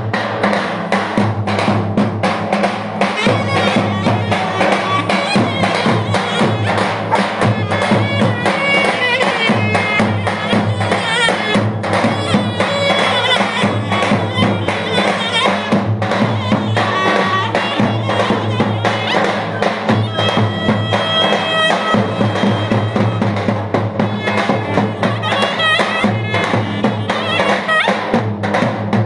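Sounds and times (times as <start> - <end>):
drums beaten with sticks: 0.0 - 29.0
clarinet playing folk tune: 3.2 - 28.1.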